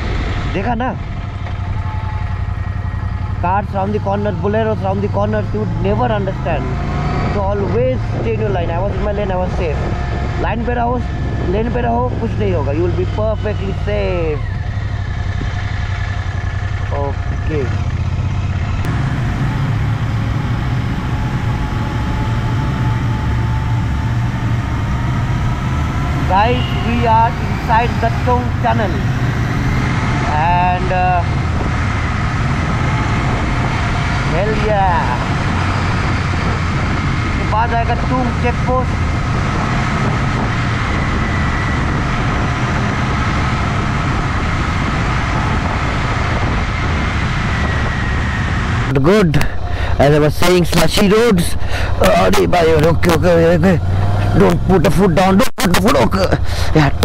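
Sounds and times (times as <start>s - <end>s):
motorcycle engine running: 0.0s - 50.1s
wind and road noise: 0.0s - 57.0s.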